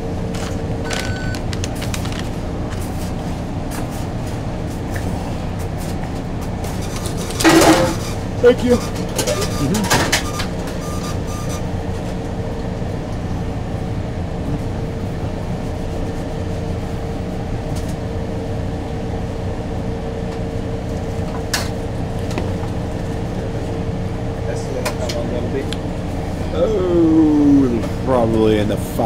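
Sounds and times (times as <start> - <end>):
kitchen machinery drone: 0.0 - 29.0.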